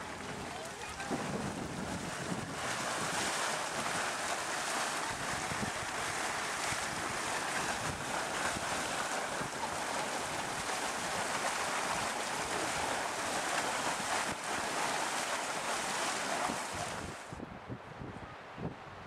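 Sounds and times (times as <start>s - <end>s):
churning mud pool hissing: 0.0s - 17.3s.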